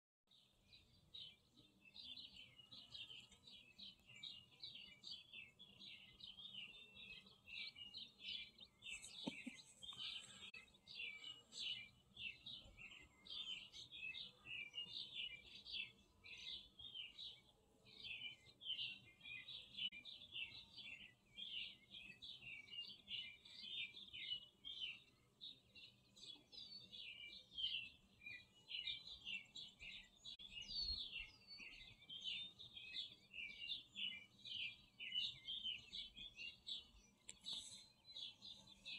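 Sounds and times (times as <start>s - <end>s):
small birds chirping: 0.3s - 38.9s.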